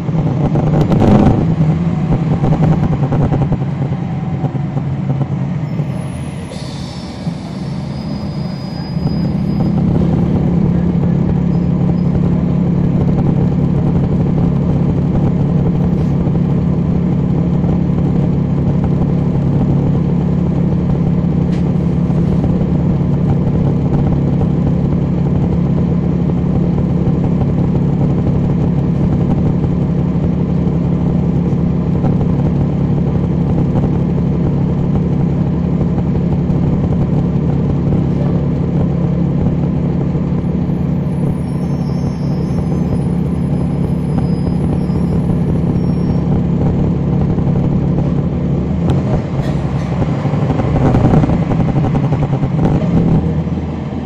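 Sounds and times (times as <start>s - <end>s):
bus diesel engine droning: 0.0s - 54.0s.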